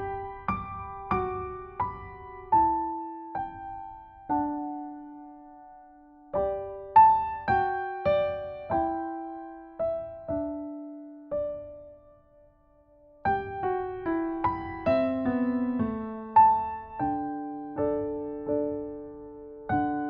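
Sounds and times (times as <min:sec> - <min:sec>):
slow solo piano: 0:00.0 - 0:20.0.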